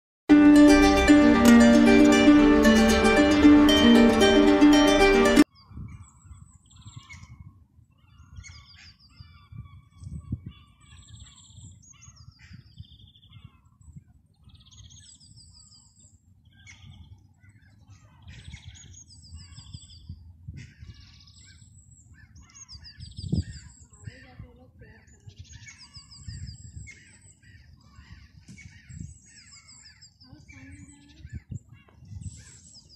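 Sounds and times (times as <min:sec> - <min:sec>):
small birds chirping and singing: 0:05.4 - 0:32.9.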